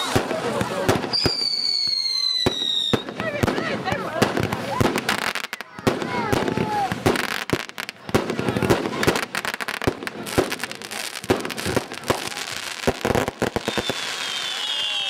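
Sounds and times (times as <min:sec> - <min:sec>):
fireworks bangs and crackling: 0:00.0 - 0:15.0
whistling firework: 0:00.0 - 0:15.0.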